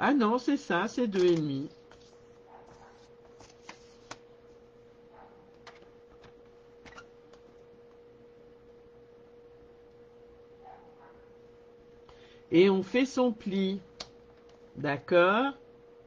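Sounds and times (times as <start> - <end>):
steady high-pitched hum: 0.0 - 16.0.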